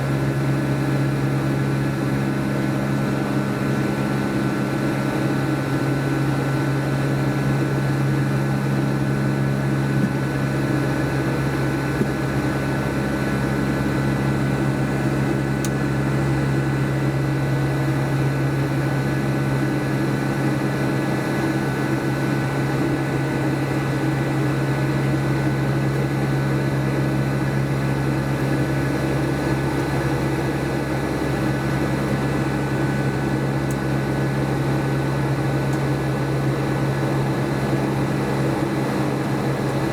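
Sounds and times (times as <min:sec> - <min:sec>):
aircraft engines humming: 0:00.0 - 0:39.9.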